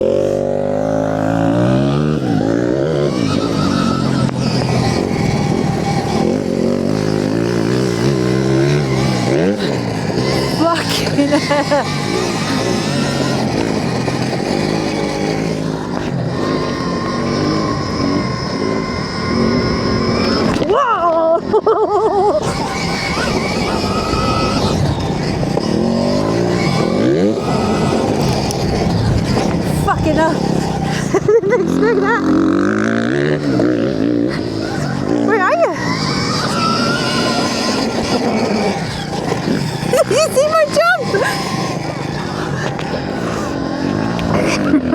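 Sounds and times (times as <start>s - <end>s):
electric motorbike motor whine: 0.0s - 44.9s
steady rough noise: 0.0s - 44.9s
wind and track noise: 0.0s - 44.9s.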